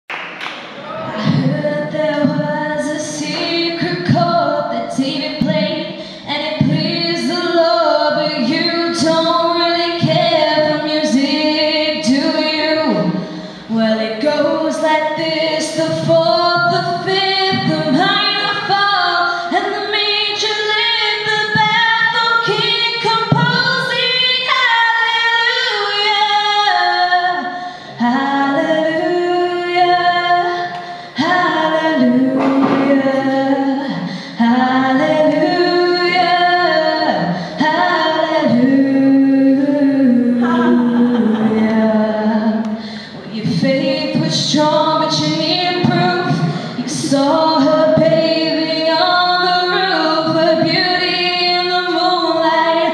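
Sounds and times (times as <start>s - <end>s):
woman singing into microphone: 0.9s - 52.9s.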